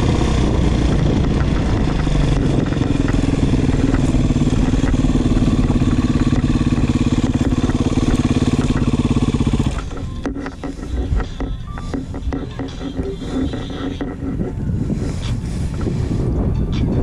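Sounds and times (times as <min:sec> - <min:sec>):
dirt bike engine running: 0:00.0 - 0:16.9
quiet broken sound: 0:00.7 - 0:14.8.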